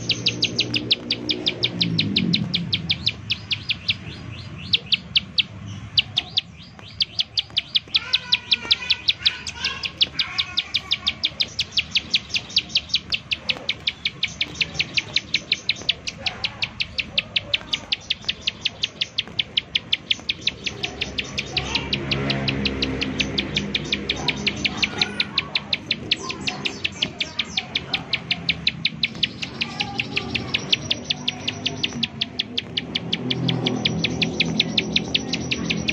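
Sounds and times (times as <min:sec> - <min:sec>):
bird calling sharp notes: 0:00.0 - 0:35.9.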